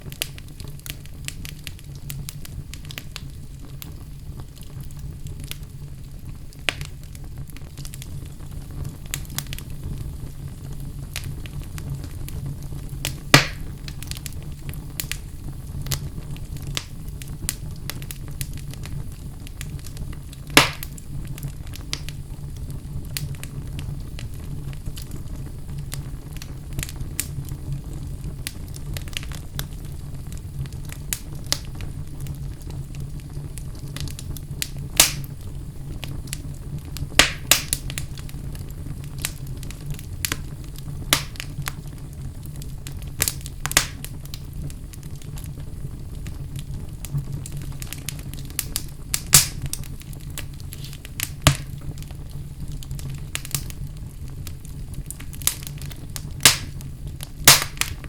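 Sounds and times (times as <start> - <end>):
flames rumbling: 0.0 - 58.0
logs crackling and popping: 0.0 - 58.0.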